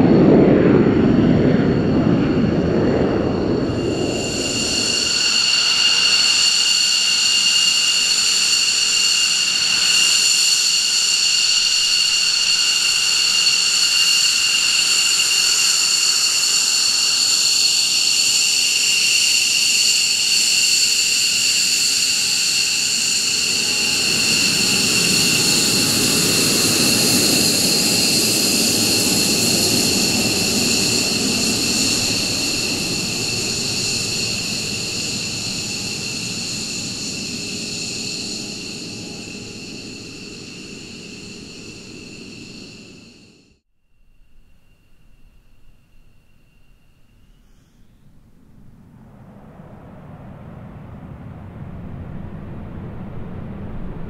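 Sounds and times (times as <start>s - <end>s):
jet exhaust rumble: 0.0s - 43.4s, 44.4s - 54.0s
jet engine high whine: 0.0s - 54.0s.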